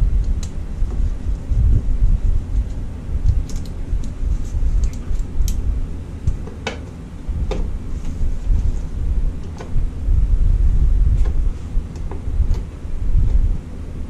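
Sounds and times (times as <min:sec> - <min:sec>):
wiring clicks and rattles: 0:00.0 - 0:10.0, 0:11.1 - 0:13.6
steady low rumble: 0:00.0 - 0:14.0.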